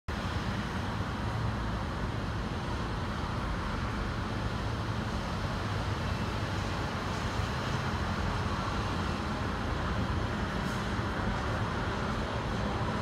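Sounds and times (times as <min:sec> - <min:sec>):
outdoor rumble and hiss: 0:00.1 - 0:13.0.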